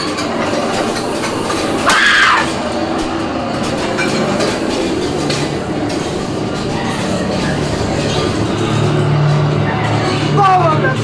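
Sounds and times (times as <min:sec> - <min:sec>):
shrill squeal: 0:00.0 - 0:09.0.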